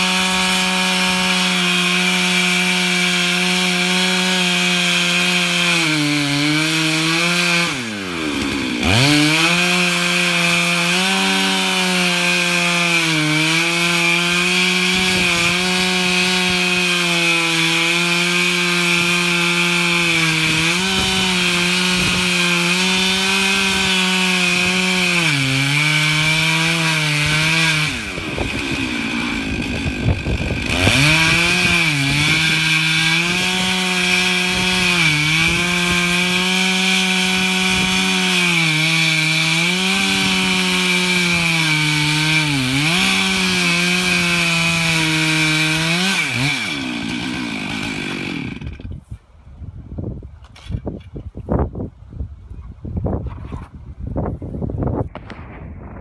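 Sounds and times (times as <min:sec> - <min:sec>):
chainsaw cutting log: 0:00.0 - 0:49.1.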